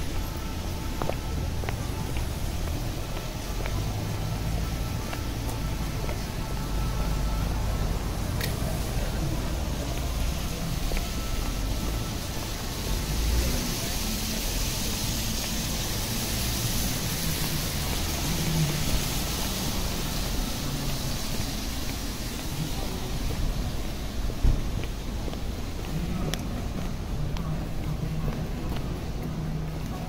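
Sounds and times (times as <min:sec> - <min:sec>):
indistinct voices: 0:00.0 - 0:30.0
traffic noise: 0:00.0 - 0:30.0.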